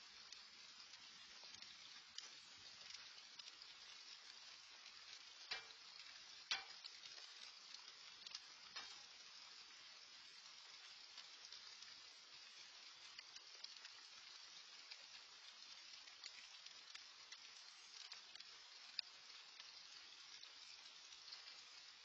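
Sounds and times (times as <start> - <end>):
light rain pattering: 0.0 - 22.0.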